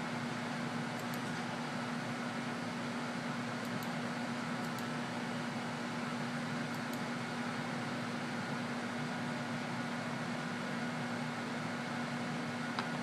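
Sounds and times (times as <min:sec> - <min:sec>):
fan-driven machine humming: 0:00.0 - 0:13.0.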